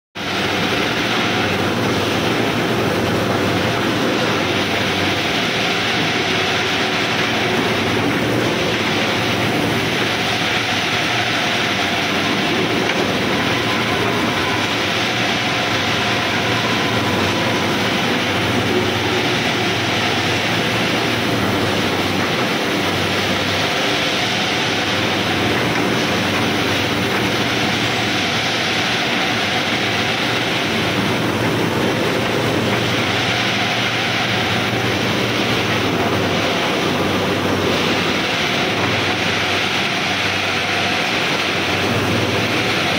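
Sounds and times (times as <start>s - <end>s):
rolling mill mechanical din: 0.2s - 42.9s.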